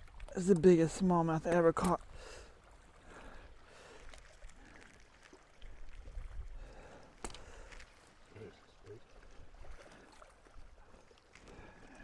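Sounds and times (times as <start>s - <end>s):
water lapping at hull: 0.0s - 12.0s.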